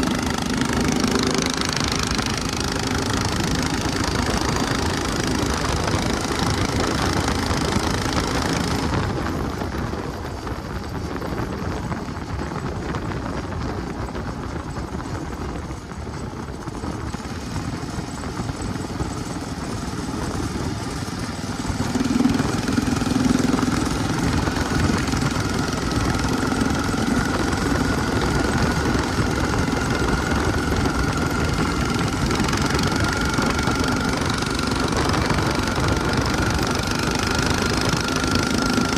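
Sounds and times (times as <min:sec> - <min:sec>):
buggy engine running: 0:00.0 - 0:38.9
thin steady whine: 0:00.0 - 0:38.9.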